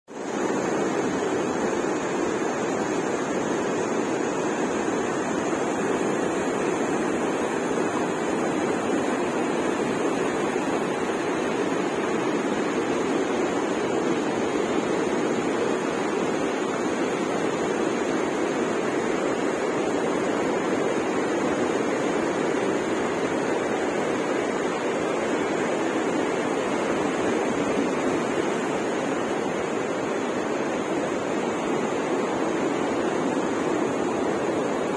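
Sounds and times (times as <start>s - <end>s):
river water pouring over weirs: 0.2s - 34.9s.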